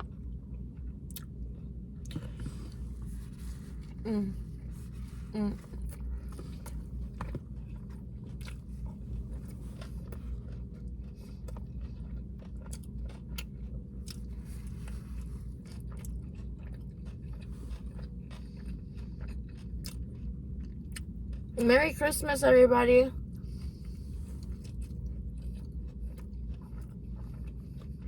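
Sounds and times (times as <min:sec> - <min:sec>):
person chewing and crunching: 0:00.0 - 0:21.7, 0:23.2 - 0:28.0
low steady hum: 0:00.0 - 0:28.0.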